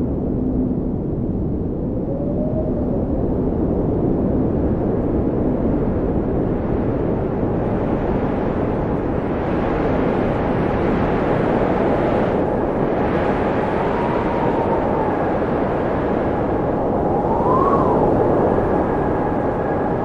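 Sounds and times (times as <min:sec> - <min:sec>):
wind blowing: 0:00.0 - 0:20.0.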